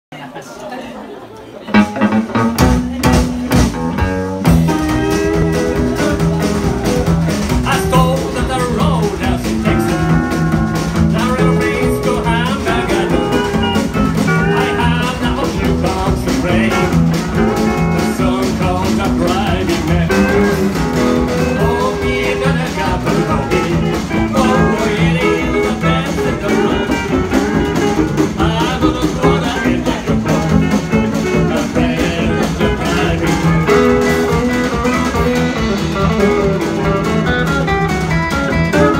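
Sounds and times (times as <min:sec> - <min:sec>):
electric guitar: 0:01.3 - 0:38.9
drums: 0:01.6 - 0:38.9
steel guitar: 0:01.7 - 0:38.9
upright bass: 0:01.7 - 0:38.9.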